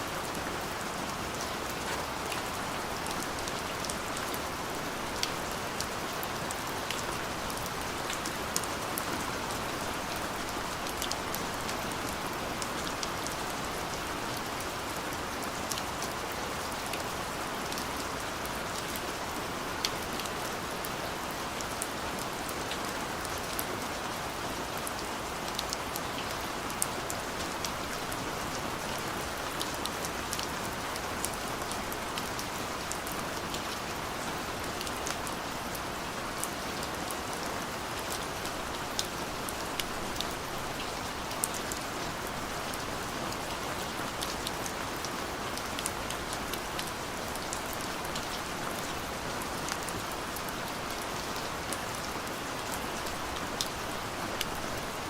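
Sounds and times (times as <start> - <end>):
steady rain falling: 0.0 - 55.0
raindrops ticking on a surface: 0.2 - 55.0.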